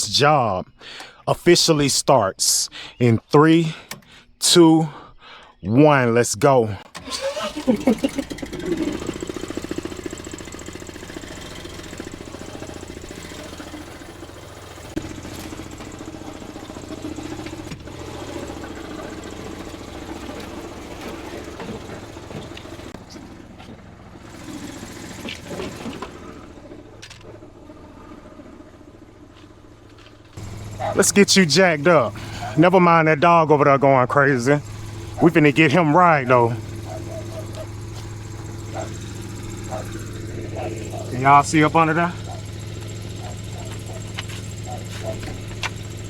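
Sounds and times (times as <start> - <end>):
engine idling: 6.9 - 46.0.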